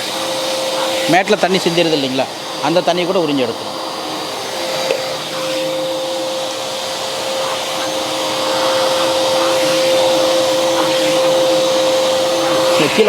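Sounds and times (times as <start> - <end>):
vacuum cleaner sucking water: 0.0 - 13.0.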